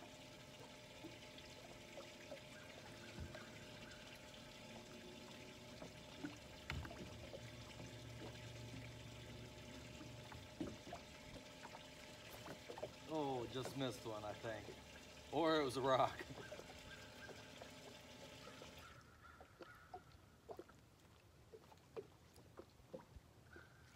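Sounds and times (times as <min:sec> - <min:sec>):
low steady hum: 0:00.0 - 0:23.9
water lapping against boat hull: 0:00.0 - 0:23.9.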